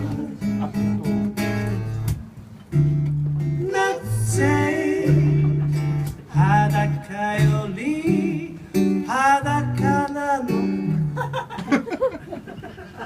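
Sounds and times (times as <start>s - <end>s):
acoustic guitar strumming: 0.0s - 11.6s.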